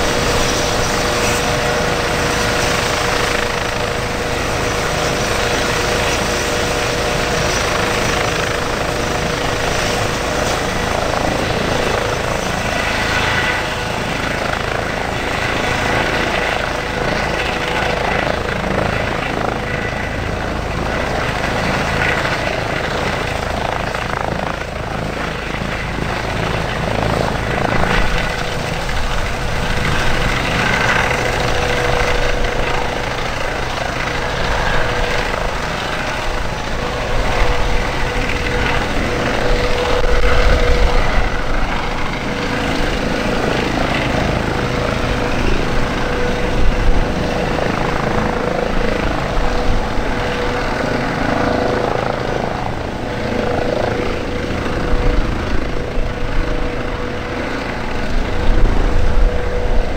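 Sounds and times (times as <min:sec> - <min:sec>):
helicopter turbine and rotor: 0:00.0 - 0:59.9.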